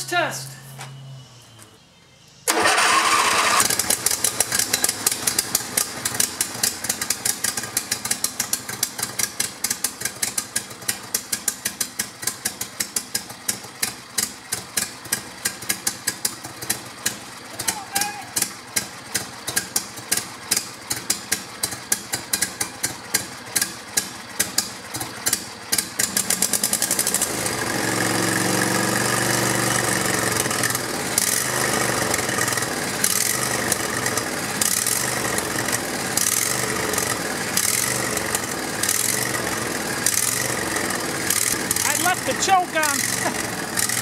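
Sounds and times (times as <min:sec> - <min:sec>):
electric starter cranking engine: 0:02.4 - 0:17.3, 0:18.4 - 0:44.0
lawn-mower engine running: 0:02.5 - 0:44.0.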